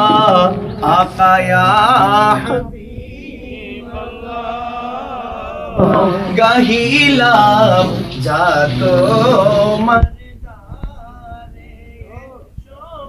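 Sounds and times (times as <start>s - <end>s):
men singing a chant: 0.0s - 13.0s.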